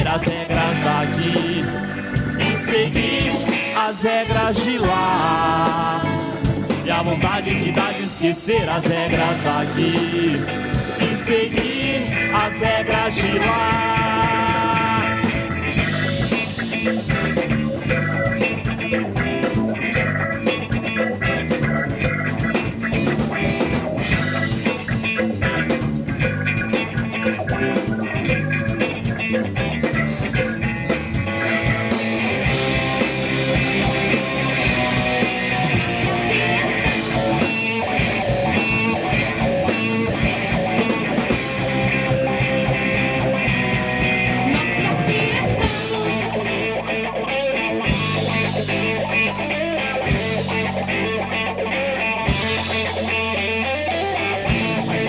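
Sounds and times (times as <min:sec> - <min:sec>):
electric guitar lead: 0:00.0 - 0:55.0
live band playing: 0:00.0 - 0:55.0.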